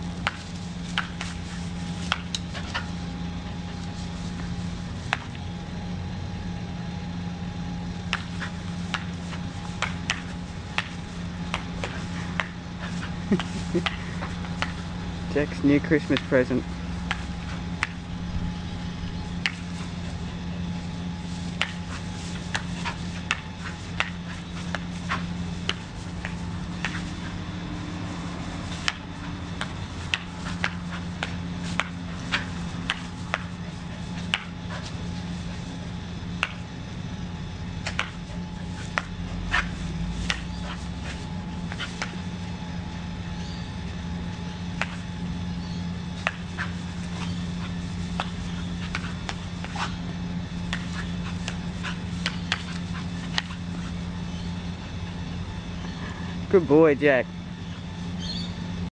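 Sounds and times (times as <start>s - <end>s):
small electric motor humming: 0.0s - 58.9s.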